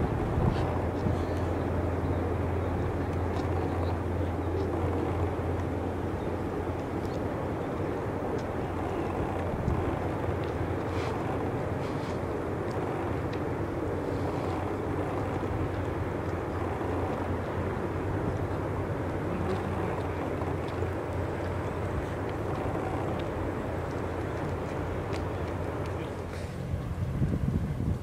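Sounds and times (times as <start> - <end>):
cargo ship diesel engine drone: 0.0 - 28.0.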